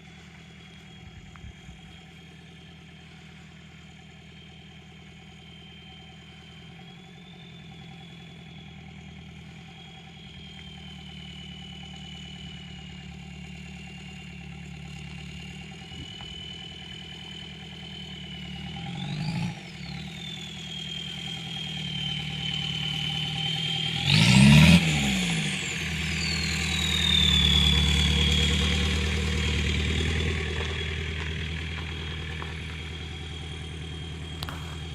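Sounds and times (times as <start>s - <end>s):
diesel engine running: 0.0s - 34.9s
turbocharger whistling: 0.0s - 34.9s.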